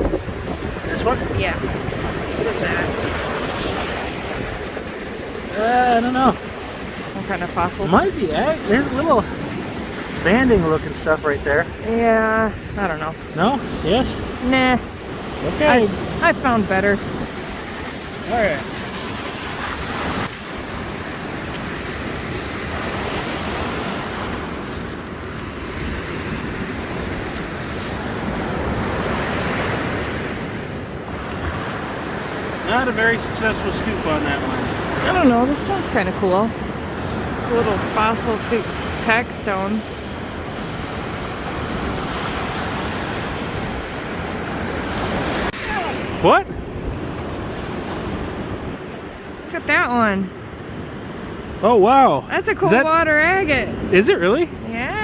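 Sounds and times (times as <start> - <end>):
surf breaking on shore: 0.0 - 55.0
wind: 0.0 - 55.0.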